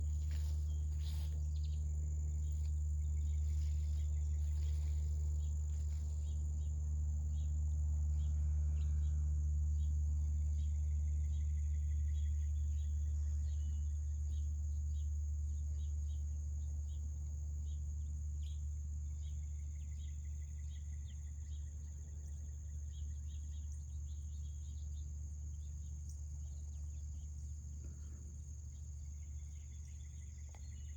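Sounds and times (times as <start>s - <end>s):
crickets trilling: 0.0s - 30.9s
faint ticks and chirps: 0.0s - 30.9s
low steady hum: 0.0s - 30.9s.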